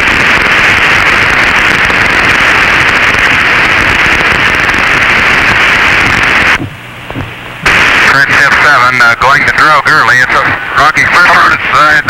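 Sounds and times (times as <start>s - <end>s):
radio static crackling hiss: 0.0s - 12.0s.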